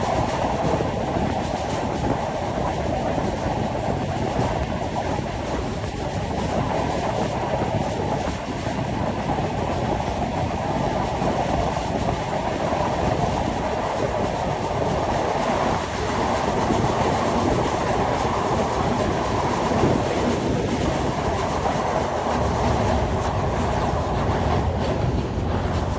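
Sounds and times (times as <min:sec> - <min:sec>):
train wheels rumbling on rails: 0:00.0 - 0:25.9.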